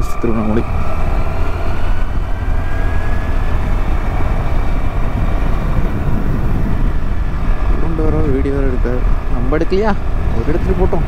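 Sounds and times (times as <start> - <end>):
faint rising whine: 0.0 - 11.0
scooter engine: 0.0 - 11.0
wind rumble on microphone: 0.0 - 11.0.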